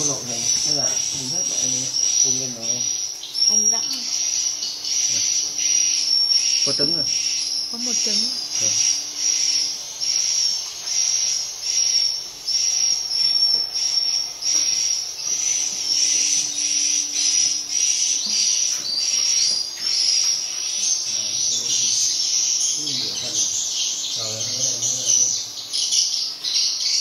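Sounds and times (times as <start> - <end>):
swiftlet buzzy chirps: 0.0 - 27.0.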